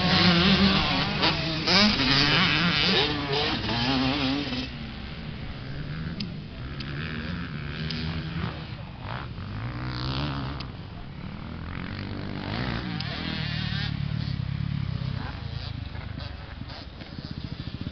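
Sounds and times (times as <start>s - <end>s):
dirt bike engines revving: 0.0s - 17.9s.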